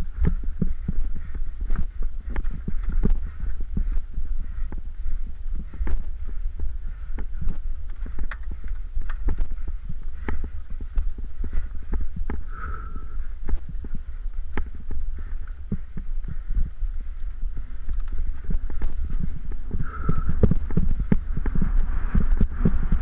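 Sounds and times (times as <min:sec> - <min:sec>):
wind rumble on microphone: 0:00.0 - 0:23.0
bike rattling over dirt trail: 0:00.1 - 0:23.0.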